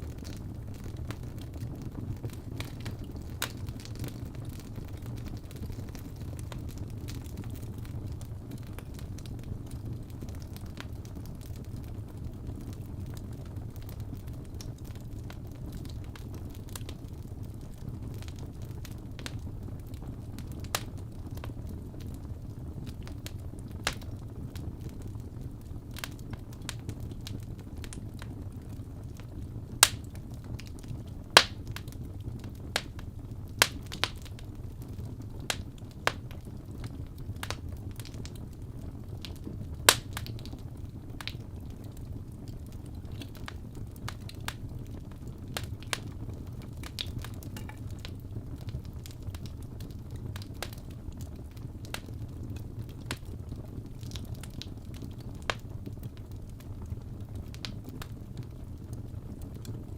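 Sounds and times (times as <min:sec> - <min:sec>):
fire burning with low rumble: 0:00.0 - 0:59.9
fire crackling and popping: 0:00.0 - 0:59.9.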